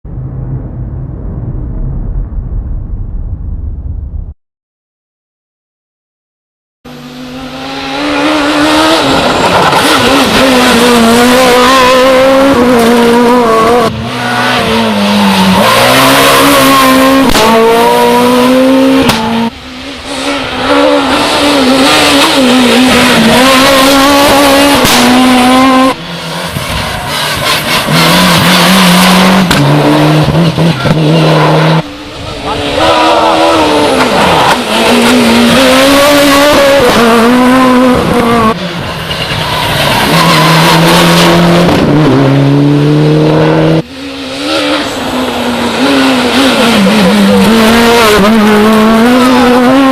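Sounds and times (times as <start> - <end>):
rally car engines revving: 6.9 - 49.9.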